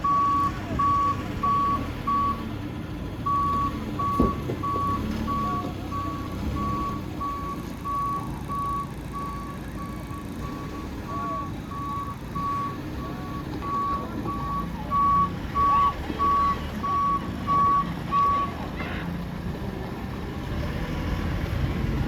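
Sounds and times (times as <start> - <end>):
forklift reversing alarm beeping: 0.0 - 2.6, 3.2 - 18.6
forklift engine running: 0.0 - 22.0.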